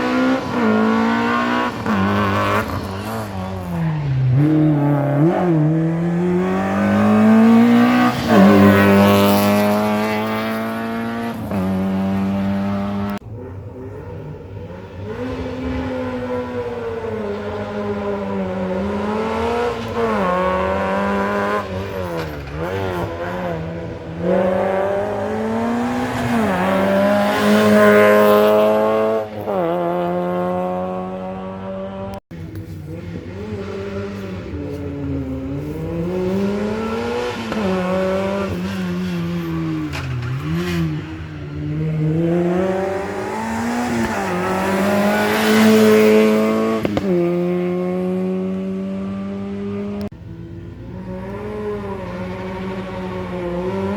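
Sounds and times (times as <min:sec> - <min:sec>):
rally car engines revving past: 0:00.0 - 0:53.9.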